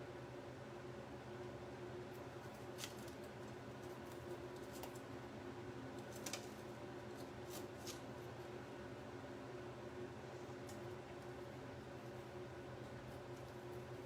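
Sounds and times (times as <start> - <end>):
low room tone hum: 0.0 - 14.0.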